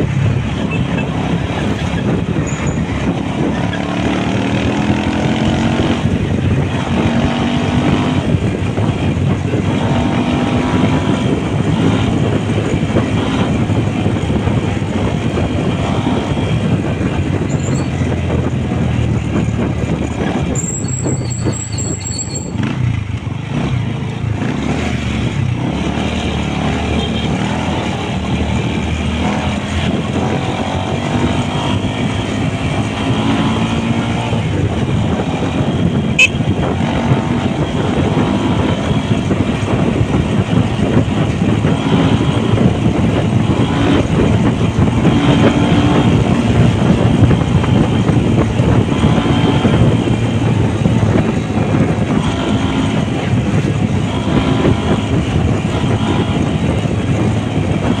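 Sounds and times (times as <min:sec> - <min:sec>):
road and wind noise: 0:00.0 - 0:58.0
vehicle driving: 0:00.0 - 0:58.0.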